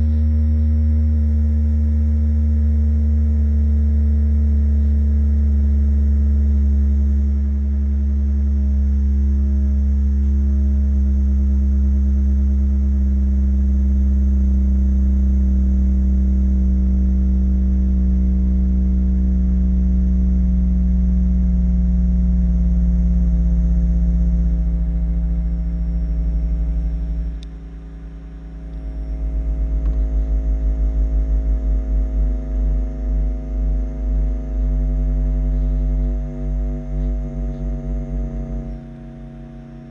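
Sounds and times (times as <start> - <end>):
low bass hum: 0.0 - 39.9.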